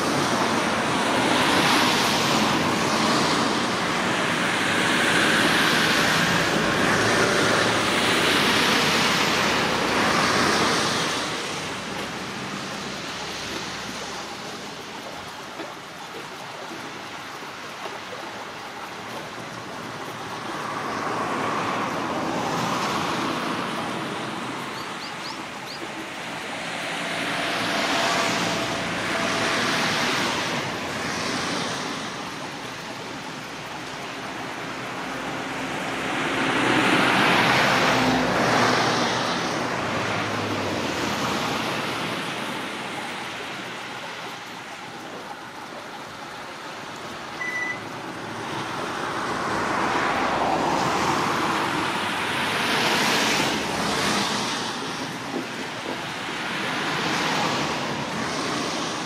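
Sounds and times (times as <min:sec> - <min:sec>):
road traffic passing: 0:00.0 - 0:16.0, 0:18.6 - 0:59.0.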